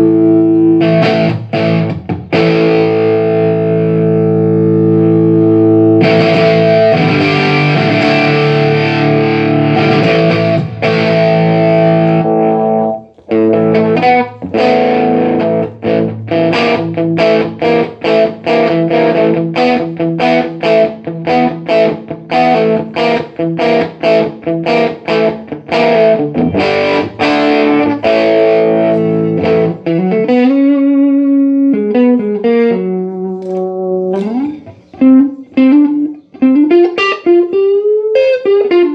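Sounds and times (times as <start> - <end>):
clean guitar notes sliding: 0.0 - 38.9
distorted electric guitar chords: 0.0 - 38.9
quick picked guitar chords: 0.0 - 38.9.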